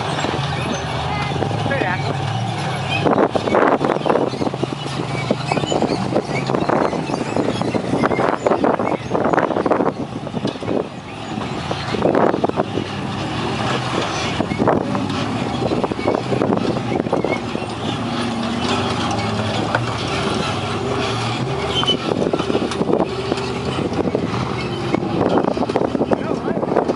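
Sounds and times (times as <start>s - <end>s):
race car engines revving: 0.0s - 26.9s.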